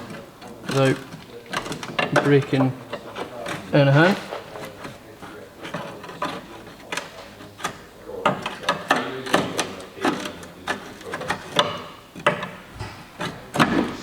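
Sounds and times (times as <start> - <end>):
hand tools clicking and clanking: 0.0 - 14.0.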